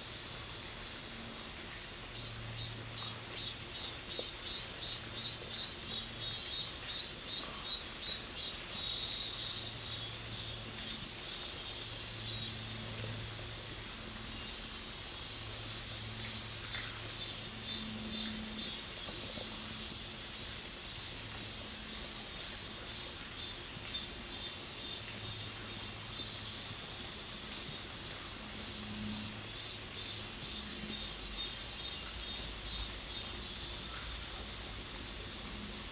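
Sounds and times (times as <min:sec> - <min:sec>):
high-pitched insect hiss: 0:00.0 - 0:35.9
insects chirping: 0:00.0 - 0:35.9.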